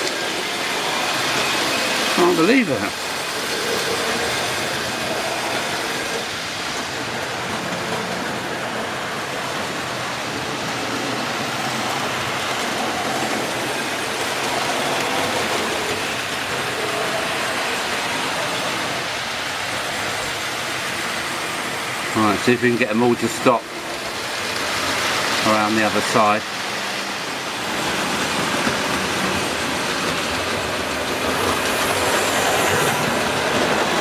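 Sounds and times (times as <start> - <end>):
model train wheels on track: 0.0 - 34.0.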